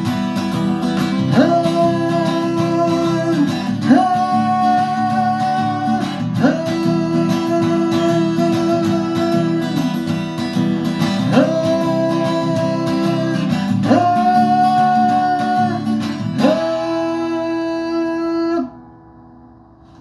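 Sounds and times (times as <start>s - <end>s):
acoustic guitar strumming: 0.0s - 20.0s
wordless sung notes: 0.0s - 20.0s.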